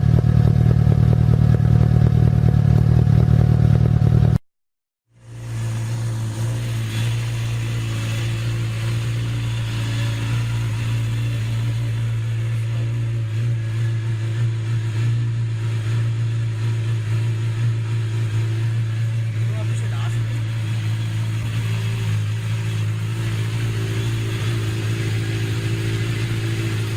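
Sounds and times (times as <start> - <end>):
motorcycle engine idling: 0.0 - 4.4, 5.1 - 26.9.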